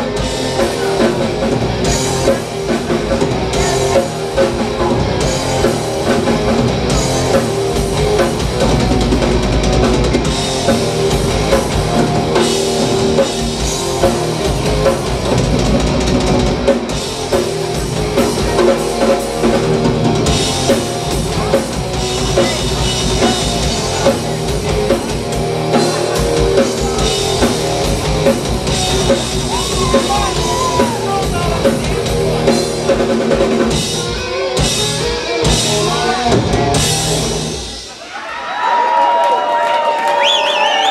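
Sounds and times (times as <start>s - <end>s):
bass guitar: 0.0s - 38.0s
distorted electric guitars: 0.0s - 38.0s
pounding drum kit: 0.0s - 38.1s.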